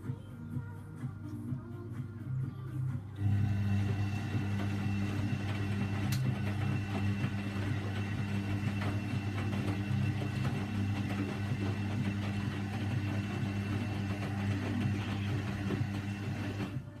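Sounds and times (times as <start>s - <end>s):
washing machine motor hum: 3.2s - 17.0s.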